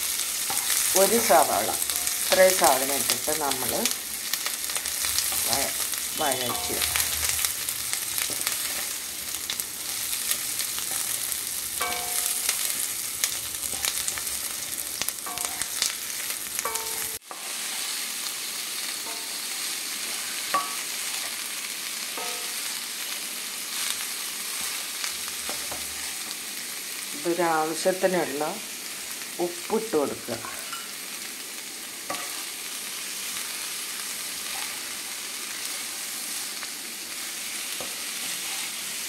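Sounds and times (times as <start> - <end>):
beans sizzling in hot pan: 0.0 - 39.0
food sizzling in oil: 0.0 - 39.0.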